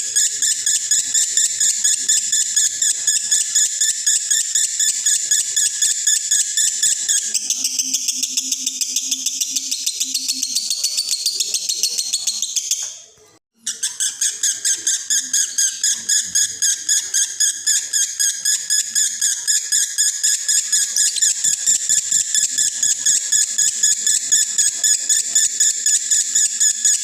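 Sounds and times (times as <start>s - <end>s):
lovebird chattering: 0.2s - 13.0s, 13.6s - 27.0s.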